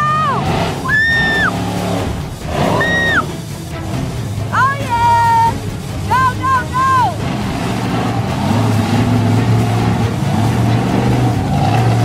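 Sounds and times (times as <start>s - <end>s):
monster truck engine running: 0.0s - 12.0s.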